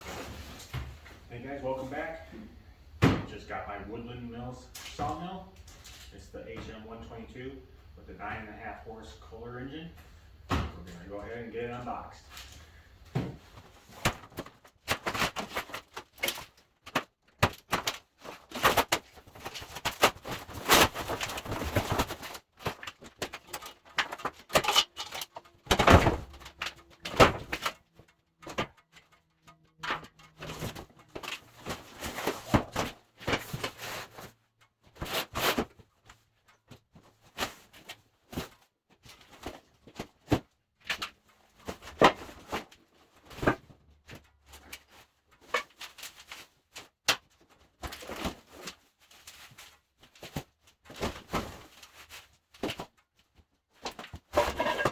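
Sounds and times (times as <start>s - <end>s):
scrapes rustles and knocks: 0.0s - 2.1s, 10.9s - 54.9s.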